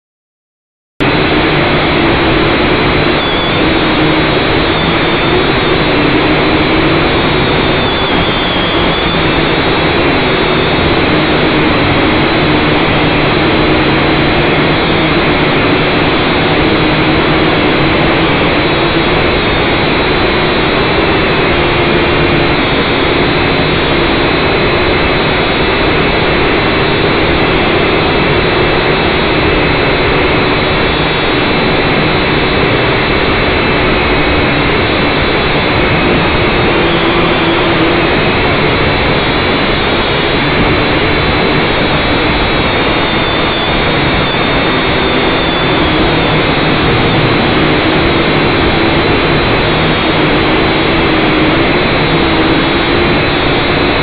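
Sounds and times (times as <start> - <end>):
quadcopter motors whining: 1.1 - 54.0.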